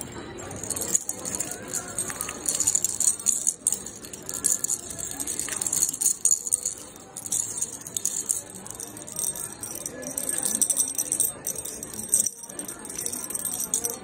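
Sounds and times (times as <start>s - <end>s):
metal keychains jangling: 0.0s - 14.0s.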